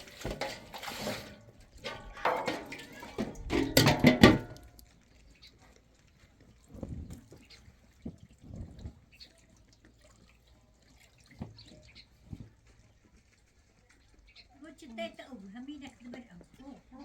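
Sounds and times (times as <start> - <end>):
water dripping and splashing: 0.0 - 17.0.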